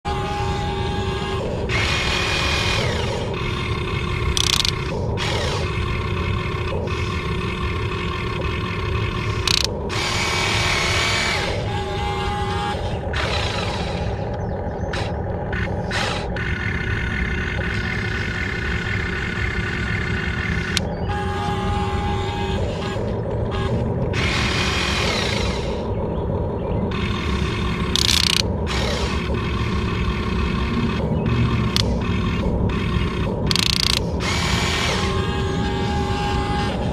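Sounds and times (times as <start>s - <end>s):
small electric motors whining: 0.0s - 36.9s.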